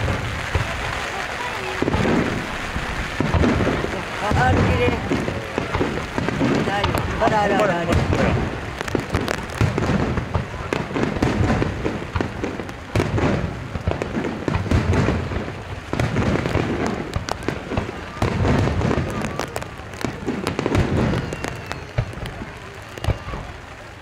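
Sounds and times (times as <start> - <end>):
fireworks booming and crackling: 0.0 - 24.0.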